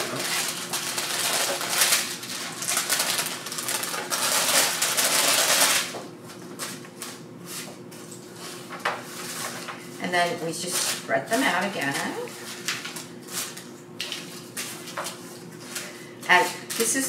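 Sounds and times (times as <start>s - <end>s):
parchment paper crinkling: 0.0s - 17.0s.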